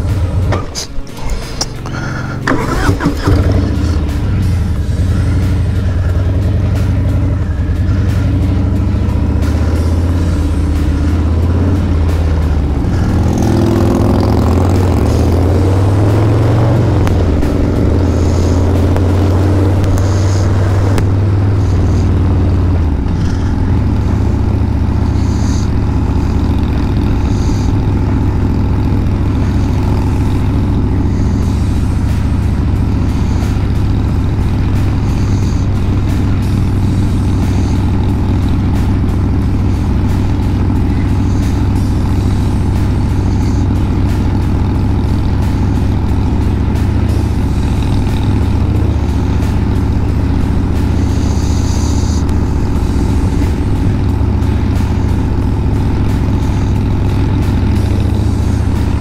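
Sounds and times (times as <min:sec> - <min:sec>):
motorcycle engine riding: 0:00.0 - 0:59.0.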